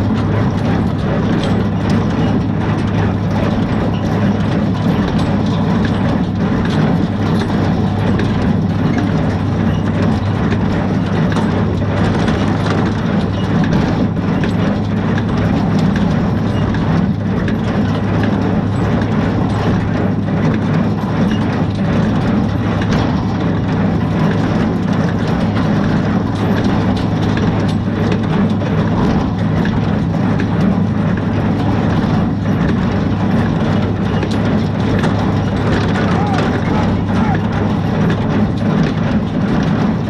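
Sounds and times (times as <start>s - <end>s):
tractor engine hum: 0.0s - 40.0s.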